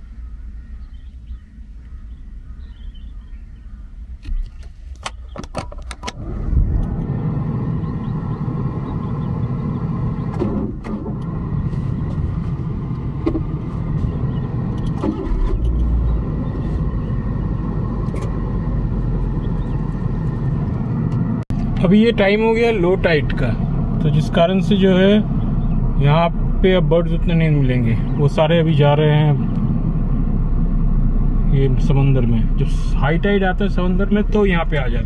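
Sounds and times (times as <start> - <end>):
loud steady low rumble: 0.0 - 4.5, 6.2 - 35.0.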